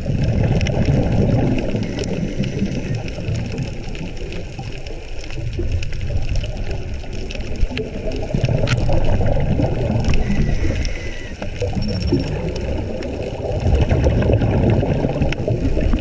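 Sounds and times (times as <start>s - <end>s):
muffled underwater rush: 0.0s - 16.0s
faint clicks: 0.4s - 13.4s.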